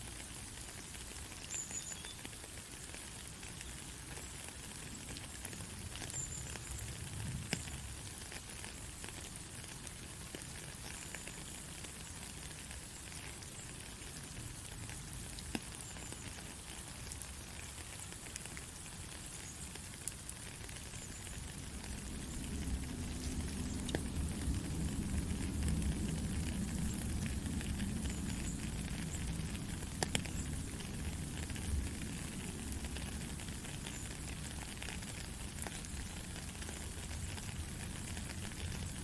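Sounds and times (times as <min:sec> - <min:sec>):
rain falling: 0:00.0 - 0:39.0
raindrops ticking: 0:00.0 - 0:39.0.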